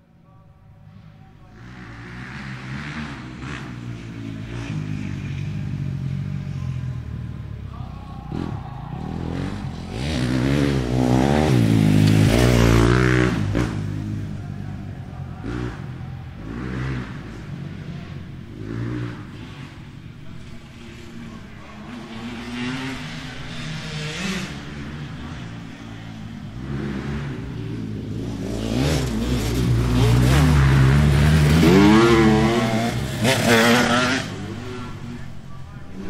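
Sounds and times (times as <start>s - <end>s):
motorcycle engine revving: 1.6s - 36.0s.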